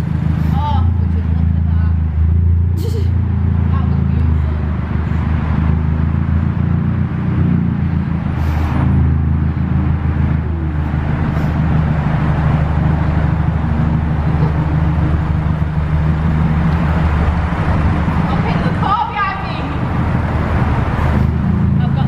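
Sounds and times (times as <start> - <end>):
car engine at low revs: 0.0 - 22.0.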